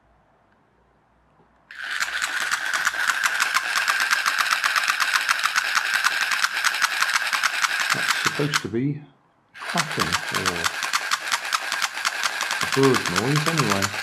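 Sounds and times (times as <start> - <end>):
toy motor rapid clatter: 1.7 - 8.7, 9.6 - 14.0.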